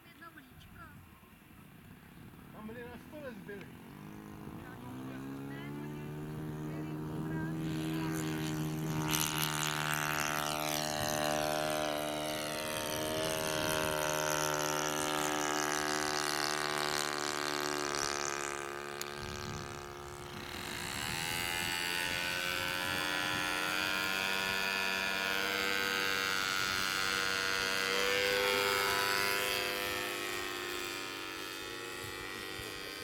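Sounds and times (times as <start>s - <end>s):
model aircraft engine droning: 0.0s - 33.0s.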